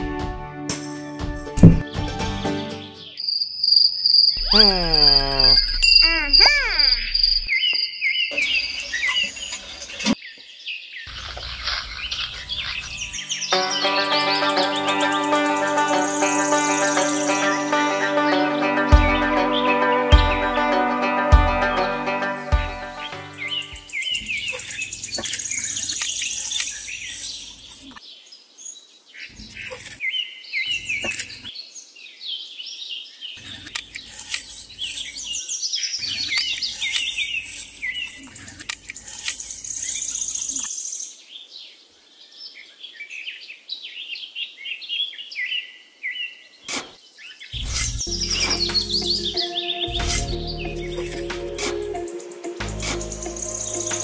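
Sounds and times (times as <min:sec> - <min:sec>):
small birds chirping and twittering: 0:01.6 - 0:20.4, 0:22.9 - 0:54.0.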